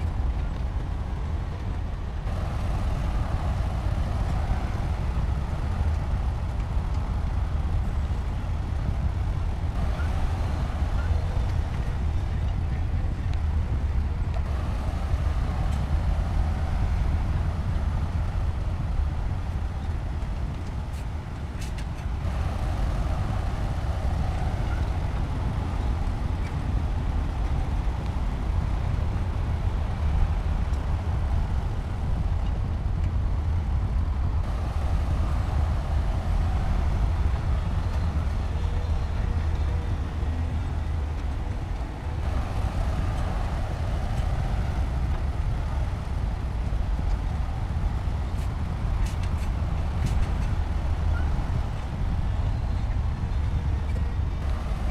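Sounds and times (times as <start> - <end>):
heavy diesel engine rumbling: 0.0 - 54.9.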